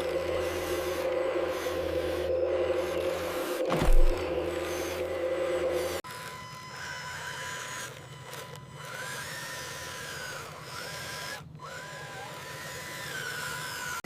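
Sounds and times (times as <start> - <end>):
toy truck motor whirring: 0.0 - 14.0.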